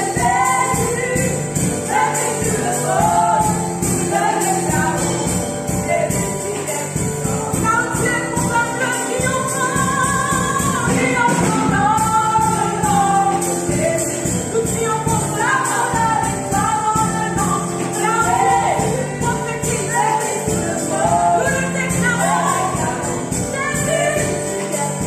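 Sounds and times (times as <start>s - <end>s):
high percussion beat: 0.0s - 25.0s
keyboard accompaniment: 0.0s - 25.0s
women singing together: 0.0s - 25.0s.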